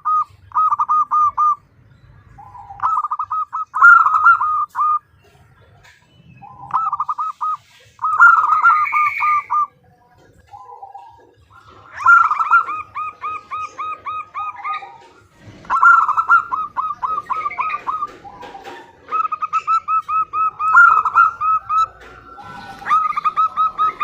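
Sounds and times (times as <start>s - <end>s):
dove calling rapid short notes: 0.0s - 1.7s, 2.4s - 5.1s, 6.4s - 9.7s, 10.6s - 24.0s
fainter lower dove calls: 0.0s - 1.7s, 2.4s - 5.1s, 6.4s - 9.8s, 10.5s - 24.0s.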